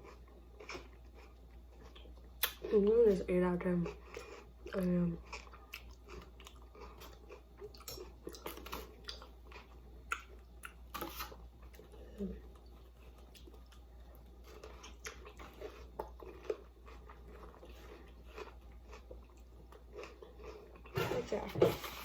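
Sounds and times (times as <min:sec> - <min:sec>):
person chewing crunchy food: 0:00.0 - 0:02.8, 0:03.7 - 0:21.0.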